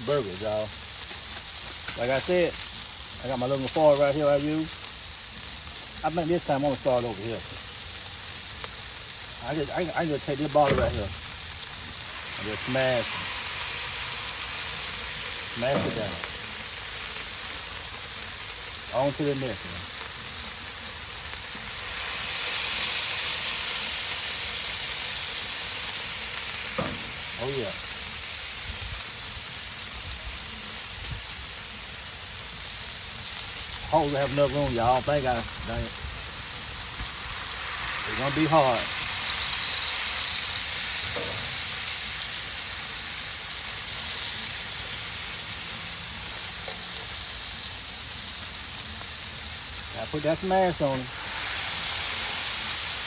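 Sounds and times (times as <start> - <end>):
burger patties sizzling: 0.0 - 53.0.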